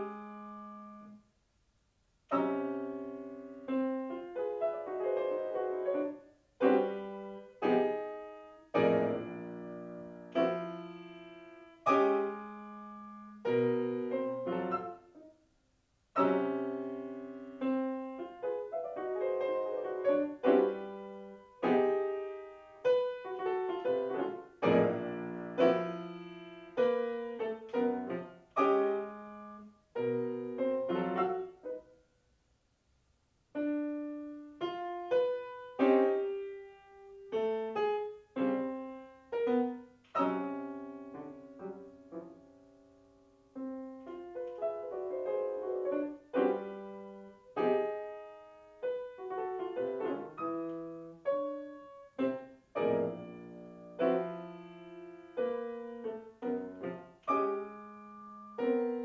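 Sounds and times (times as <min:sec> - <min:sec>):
grand piano playing: 0:02.3 - 0:15.4, 0:16.2 - 0:31.9, 0:33.6 - 0:59.0.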